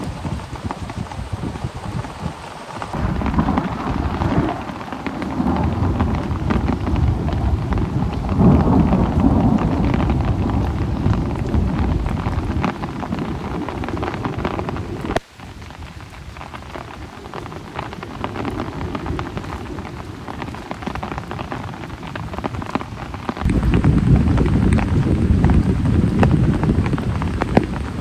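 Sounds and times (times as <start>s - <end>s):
heavy rain falling: 0.0s - 28.0s
thunder rolling: 2.8s - 15.2s, 17.2s - 28.0s.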